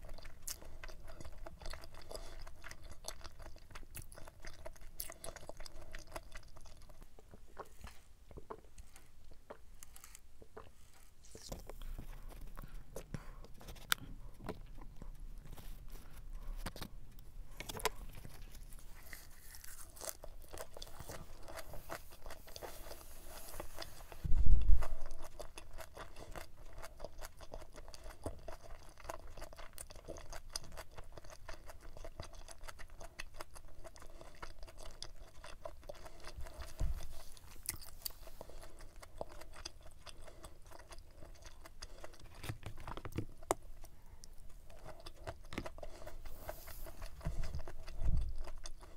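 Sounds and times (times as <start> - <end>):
wet chewing crunches: 0.0 - 16.9, 17.5 - 48.9.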